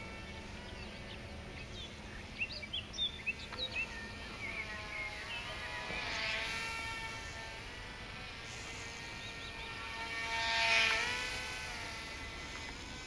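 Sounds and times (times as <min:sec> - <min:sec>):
model plane motors buzzing: 0:00.0 - 0:13.0.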